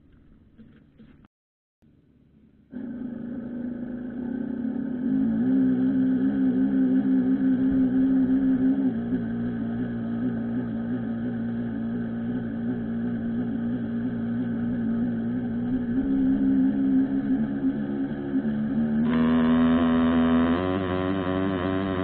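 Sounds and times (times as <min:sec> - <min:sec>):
model boat motor humming: 0:02.7 - 0:22.0.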